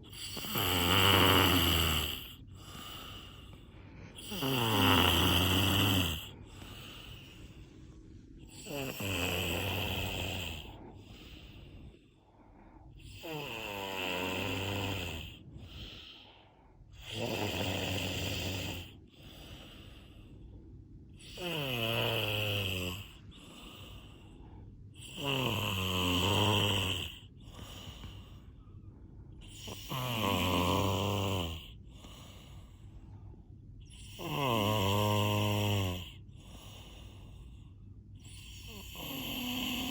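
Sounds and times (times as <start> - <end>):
person snoring: 0.0 - 20.4, 21.1 - 28.6, 29.4 - 33.0, 33.9 - 37.6, 38.2 - 39.9
quiet breaths: 0.0 - 39.9.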